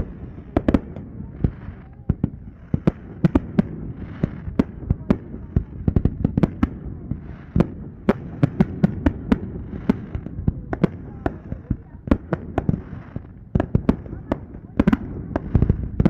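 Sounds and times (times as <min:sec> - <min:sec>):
fireworks bangs and pops: 0:00.0 - 0:16.0.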